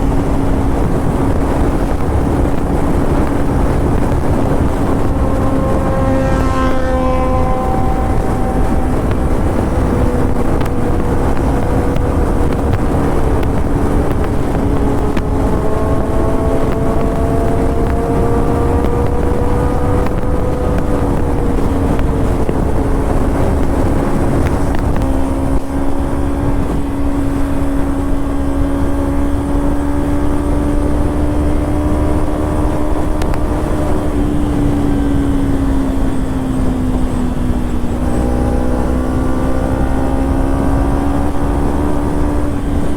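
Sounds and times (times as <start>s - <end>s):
motorcycle engine cruising: 0.0s - 42.9s
wind noise on microphone: 0.0s - 42.9s.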